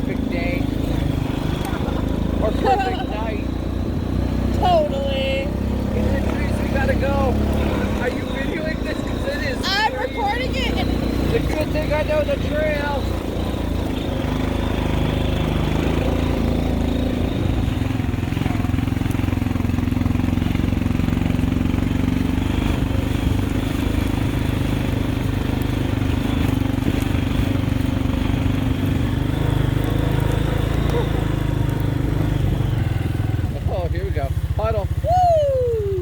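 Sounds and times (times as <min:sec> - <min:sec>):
atv engine running: 0:00.0 - 0:36.0.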